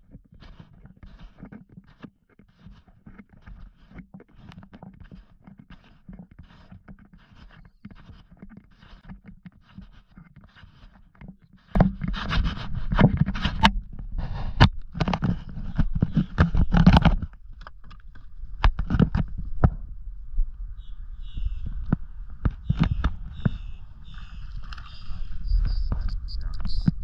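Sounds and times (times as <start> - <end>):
scraping and knocking on microphone: 0.0 - 20.5, 21.2 - 27.0.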